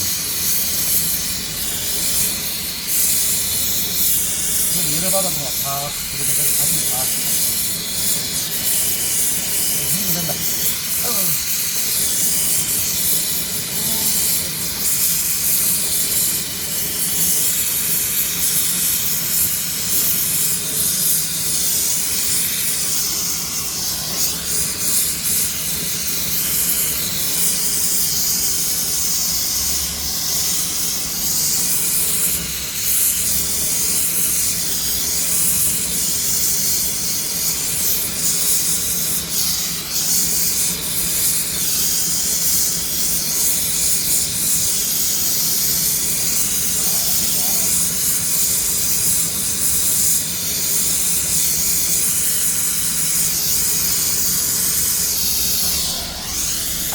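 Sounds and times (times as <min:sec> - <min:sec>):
welding arc crackling and hissing: 0:00.0 - 0:56.9.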